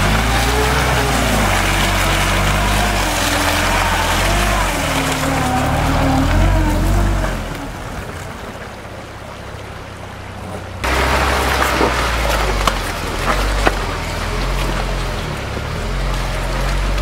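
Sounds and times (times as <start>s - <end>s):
mud and water splashing: 0.0s - 17.0s
suv engine driving through mud: 0.0s - 17.0s.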